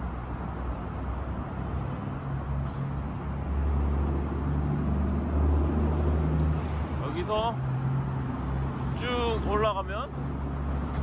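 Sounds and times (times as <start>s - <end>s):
road traffic engine drone: 0.0s - 11.0s.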